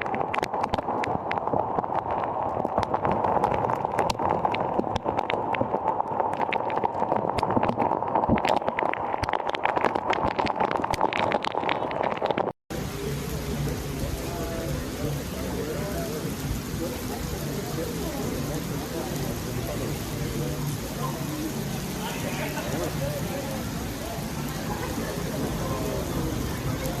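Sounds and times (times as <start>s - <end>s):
heavy rain patter: 0.0s - 27.0s
rushing water: 0.0s - 27.0s.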